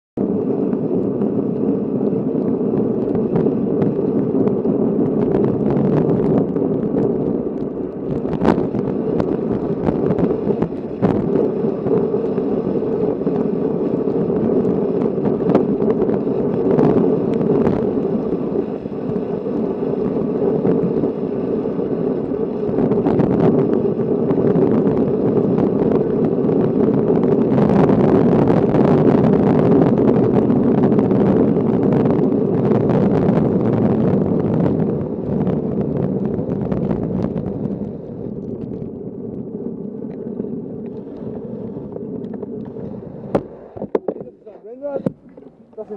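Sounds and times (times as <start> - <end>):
bicycle road noise on wet street: 0.2 - 45.9
wind rush on microphone: 0.2 - 45.9.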